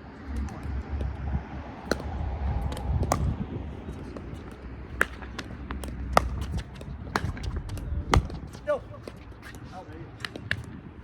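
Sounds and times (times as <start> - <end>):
wind rumble on microphone: 0.0 - 11.0
paddles hitting ball: 1.8 - 10.8
shoes on court: 1.8 - 11.0.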